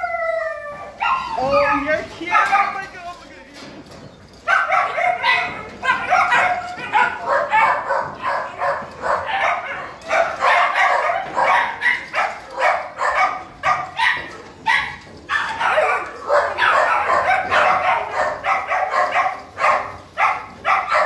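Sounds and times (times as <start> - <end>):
dogs barking: 0.0 - 2.9, 4.3 - 21.0.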